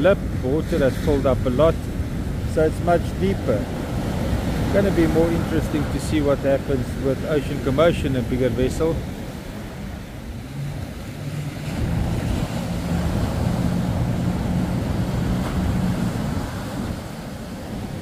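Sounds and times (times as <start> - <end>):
engine drone: 0.0 - 18.0
surf breaking: 0.0 - 18.0.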